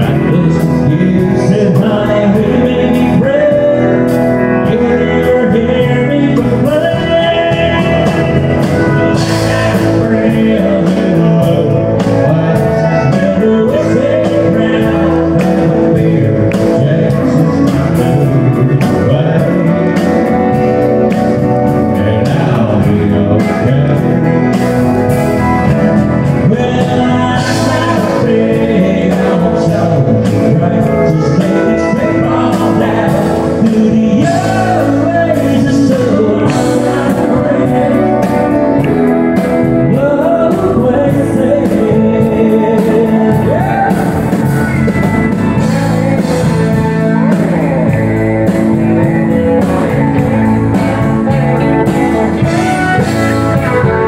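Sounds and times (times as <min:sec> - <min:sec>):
acoustic guitar: 0:00.0 - 0:54.0
drums: 0:00.0 - 0:54.0
electric guitar: 0:00.0 - 0:54.0
person singing: 0:00.0 - 0:54.0.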